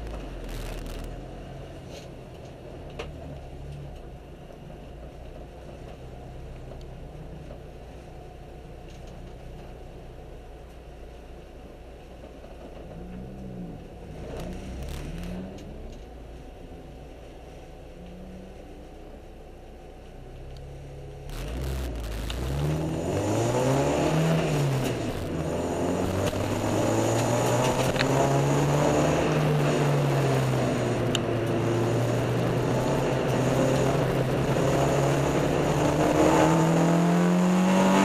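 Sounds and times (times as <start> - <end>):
car engine at low revs: 0.0 - 38.0.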